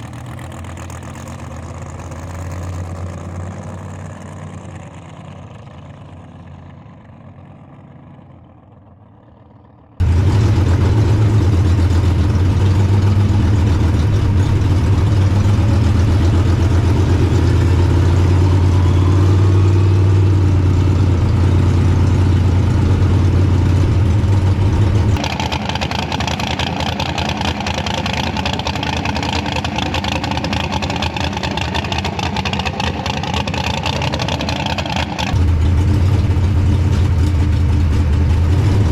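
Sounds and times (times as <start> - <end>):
car engine droning: 0.0 - 38.9.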